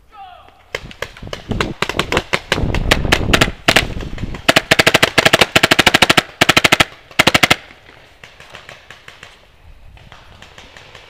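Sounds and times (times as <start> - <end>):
rapid paintball bursts: 0.7 - 11.0.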